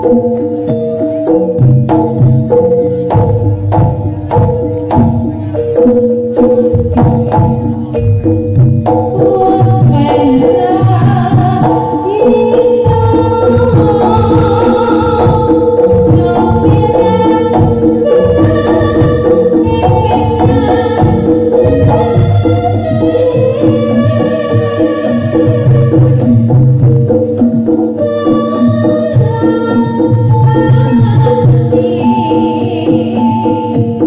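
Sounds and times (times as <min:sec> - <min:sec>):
hand drums beating fast rhythm: 0:00.0 - 0:34.0
ringing metallophones and gongs: 0:00.0 - 0:34.0
wavering melody line: 0:00.0 - 0:34.0.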